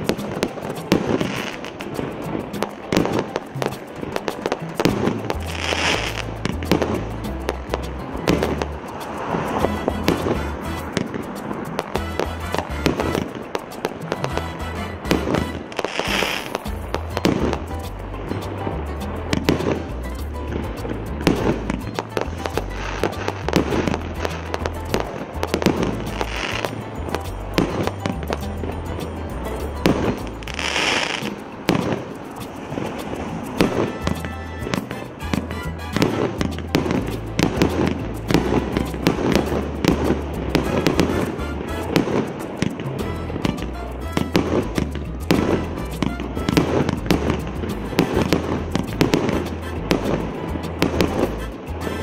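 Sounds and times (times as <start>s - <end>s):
fireworks banging: 0.0s - 52.0s.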